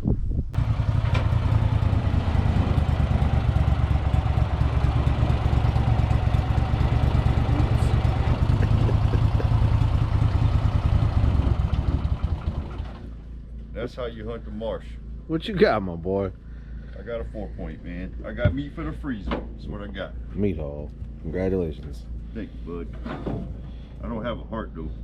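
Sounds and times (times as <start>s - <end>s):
rough motor engine running: 0.6s - 25.0s.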